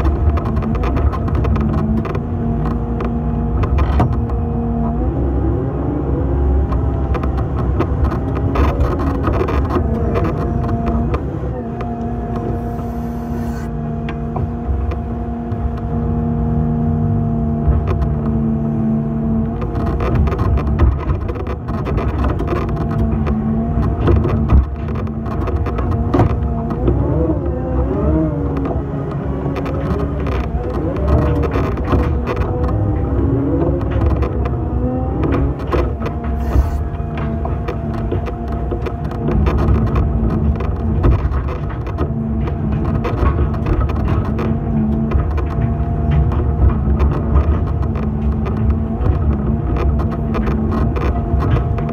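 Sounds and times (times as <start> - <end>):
excavator engine and hydraulic whine: 0.0 - 51.9.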